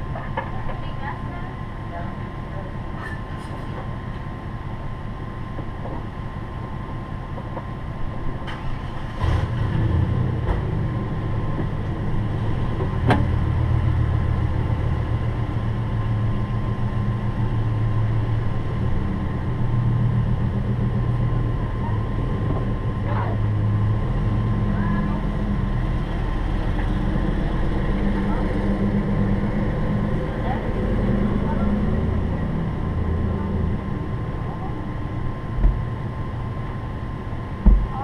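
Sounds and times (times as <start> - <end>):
vehicle engine idling: 0.0 - 38.0.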